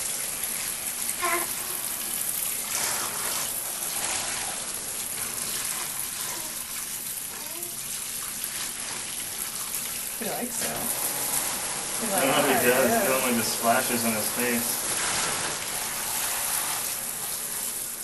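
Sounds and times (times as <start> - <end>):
shower water splashing: 0.0 - 18.0.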